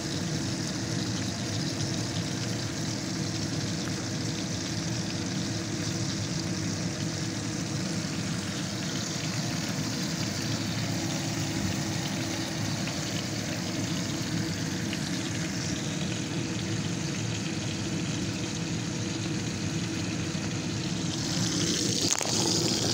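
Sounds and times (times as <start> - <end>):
steady low hum: 0.0 - 22.9
steak sizzling in a pan: 0.0 - 22.9.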